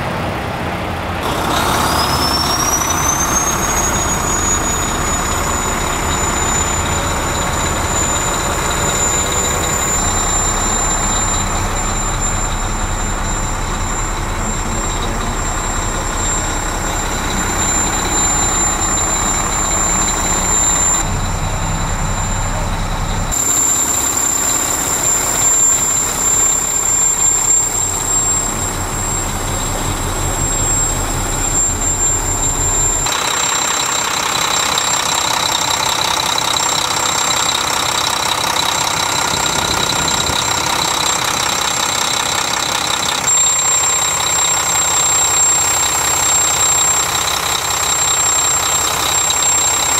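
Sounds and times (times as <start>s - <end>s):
diesel engine idling: 0.0s - 49.9s
steady high whine: 0.0s - 49.9s.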